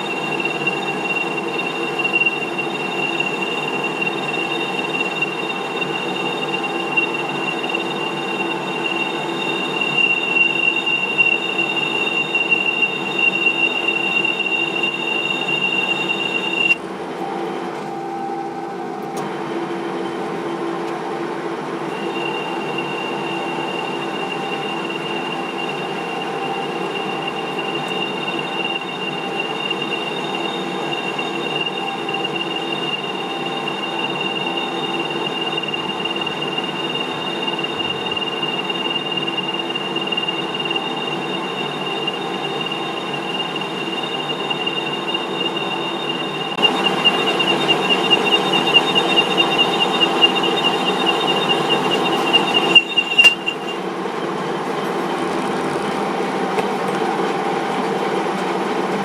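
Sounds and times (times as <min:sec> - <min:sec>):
metal lathe humming and whining: 0:00.0 - 0:59.0.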